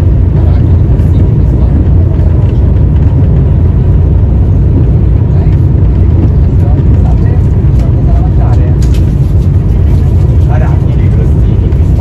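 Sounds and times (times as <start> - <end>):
train rumbling from inside cabin: 0.0 - 12.0.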